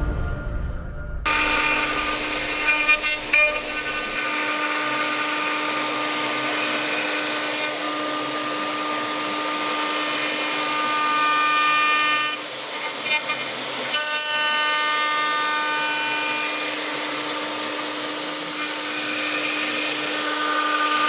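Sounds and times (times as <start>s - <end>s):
machine noise: 0.0s - 21.0s
router spindle high whine: 1.3s - 21.0s.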